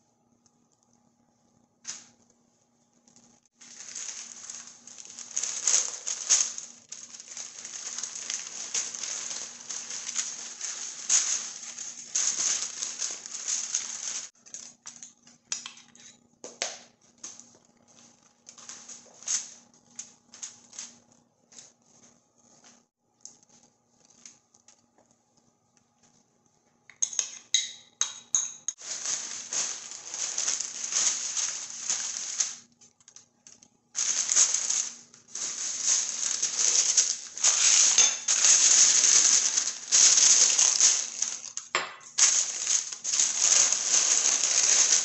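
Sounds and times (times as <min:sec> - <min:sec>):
paper crinkling and rustling: 0:03.0 - 0:15.3, 0:17.0 - 0:25.0, 0:28.8 - 0:45.0.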